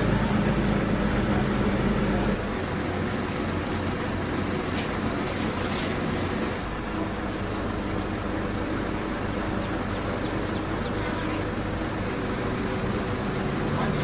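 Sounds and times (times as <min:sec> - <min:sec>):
low machinery hum: 0:00.0 - 0:14.0.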